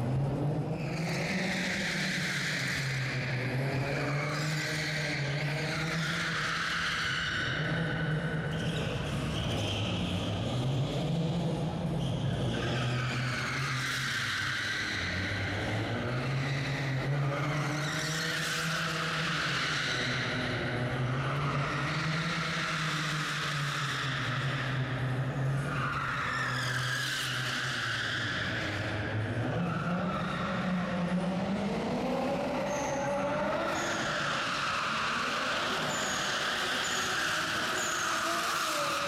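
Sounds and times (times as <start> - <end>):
car engine at high revs: 0.0 - 39.0.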